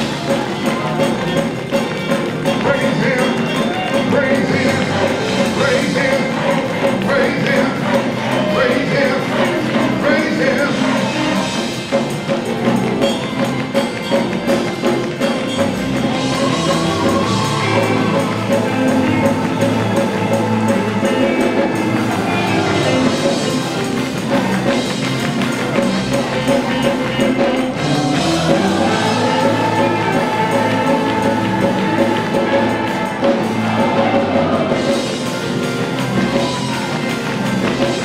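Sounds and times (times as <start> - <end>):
drum kit beat: 0.0 - 38.0
live gospel band music: 0.0 - 38.0.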